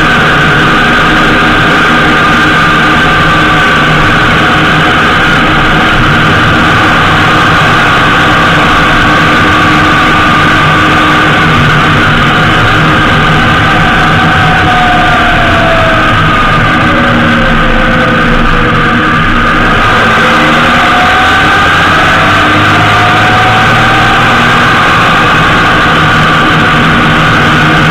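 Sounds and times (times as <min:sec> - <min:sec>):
motorcycle engine drone: 0:00.0 - 0:27.9
wind and road noise: 0:00.0 - 0:27.9.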